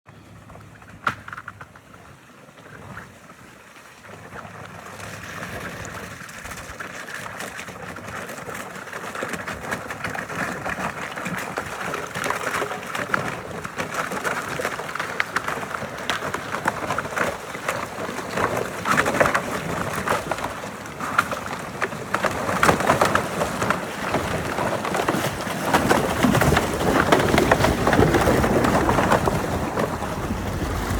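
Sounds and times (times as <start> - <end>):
tyres splashing through icy water: 4.0 - 30.9.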